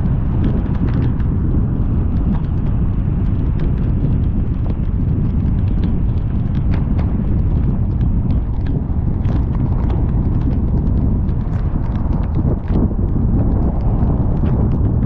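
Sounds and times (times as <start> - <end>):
raindrops tapping: 0.0 - 15.0
road and wind rumble: 0.0 - 15.0.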